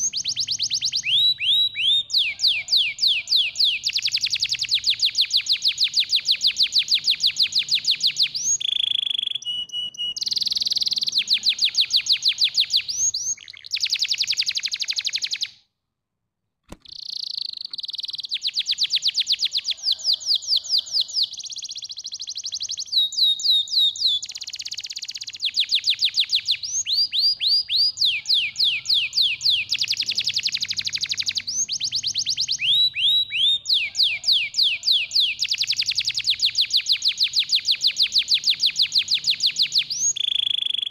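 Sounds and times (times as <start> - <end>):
canary singing trills: 0.0 - 15.6, 16.8 - 40.9.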